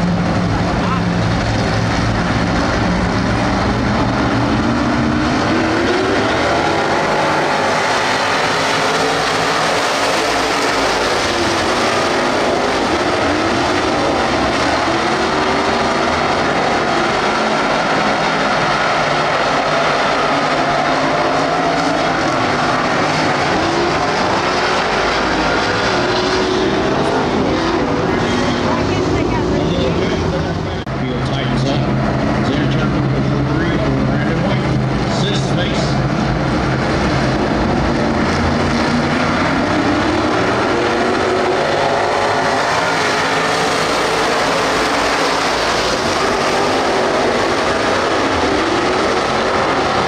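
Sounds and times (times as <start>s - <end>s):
race car engines revving: 0.0s - 50.0s.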